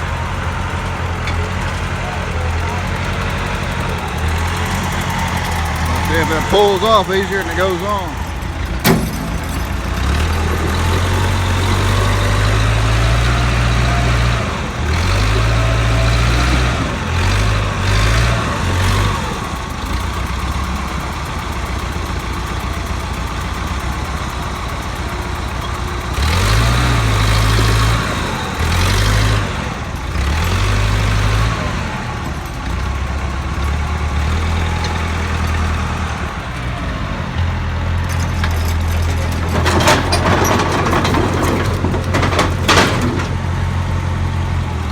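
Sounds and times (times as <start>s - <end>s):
diesel engine revving under load: 0.0s - 44.9s.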